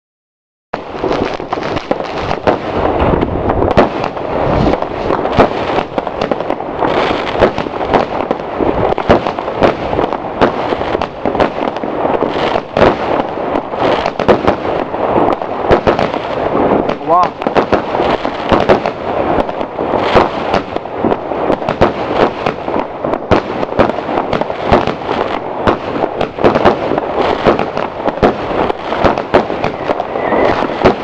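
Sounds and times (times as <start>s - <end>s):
firework bangs: 0.8s - 31.0s
firework crackling: 0.8s - 31.0s.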